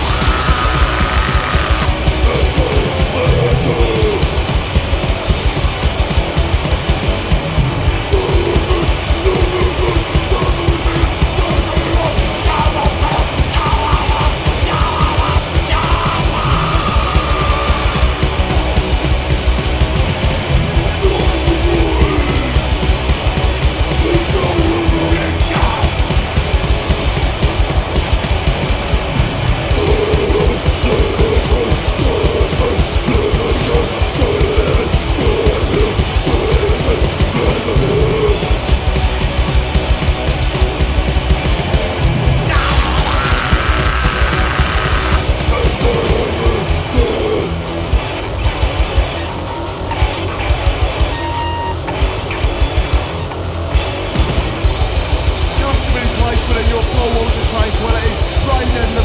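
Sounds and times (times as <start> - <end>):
bass: 0.0 - 59.0
distorted electric guitars: 0.0 - 59.0
drums: 0.0 - 59.0.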